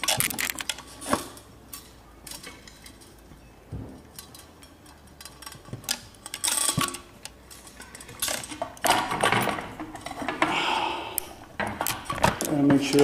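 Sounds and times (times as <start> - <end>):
metal hardware clinking and rattling: 0.0 - 10.5.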